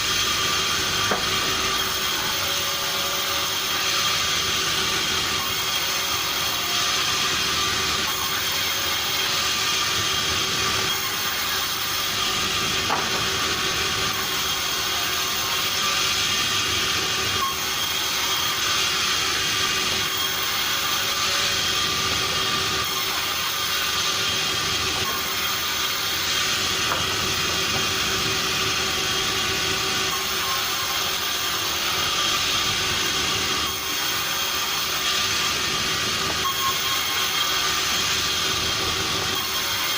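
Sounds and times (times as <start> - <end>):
sawmill machinery hissing and humming: 0.0 - 39.9.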